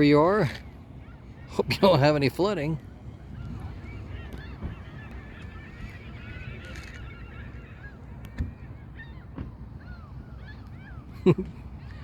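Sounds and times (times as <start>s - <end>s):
water birds calling: 0.0s - 12.0s.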